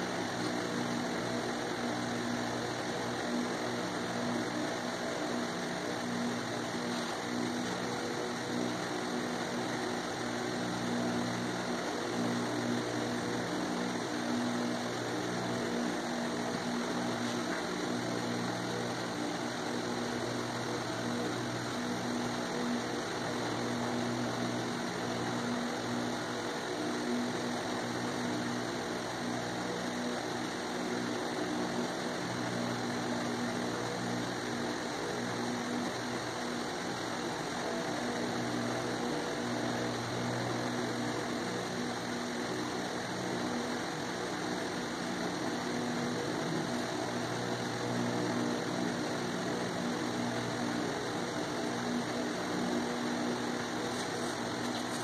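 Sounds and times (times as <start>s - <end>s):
steady machine drone: 0.0s - 55.0s.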